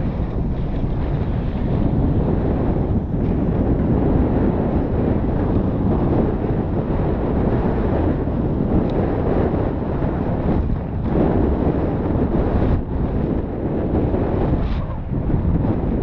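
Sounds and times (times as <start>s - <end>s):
tyres rumbling on dirt trail: 0.0s - 16.0s
wind buffeting microphone: 0.0s - 16.0s.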